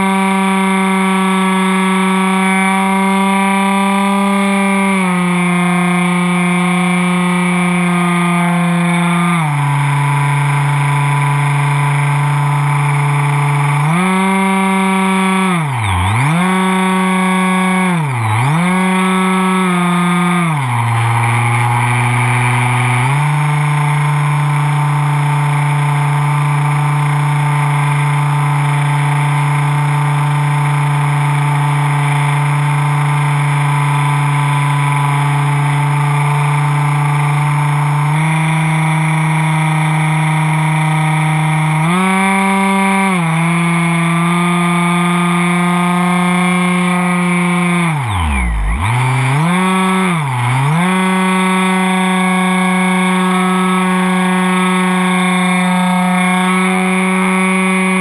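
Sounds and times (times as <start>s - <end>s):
electric motor propeller whine: 0.0s - 58.0s.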